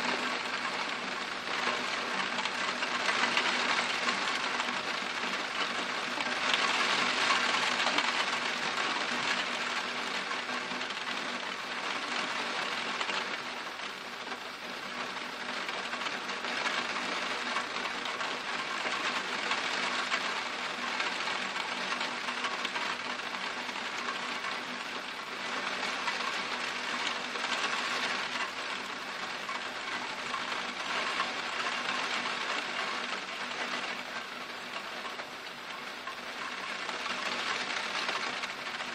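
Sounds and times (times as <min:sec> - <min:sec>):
torrential rain hissing: 0:00.0 - 0:38.9.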